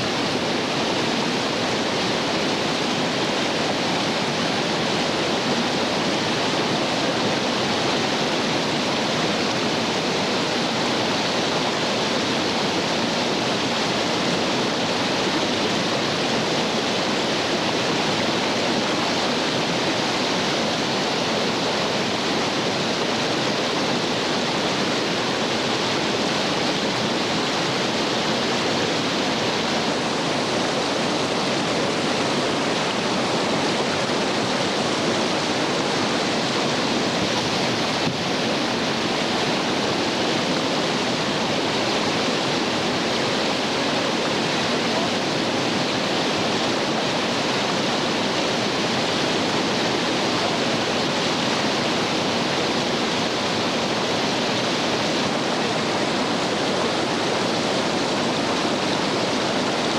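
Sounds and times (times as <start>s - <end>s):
rushing rapids water: 0.0s - 59.9s.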